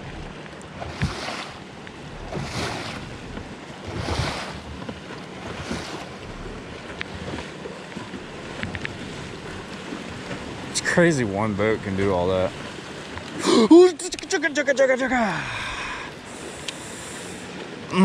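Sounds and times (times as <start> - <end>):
waves slapping against boat: 0.0 - 18.0.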